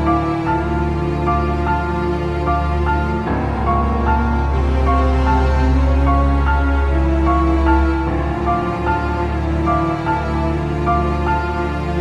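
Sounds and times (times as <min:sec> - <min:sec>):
background music melody: 0:00.0 - 0:12.0.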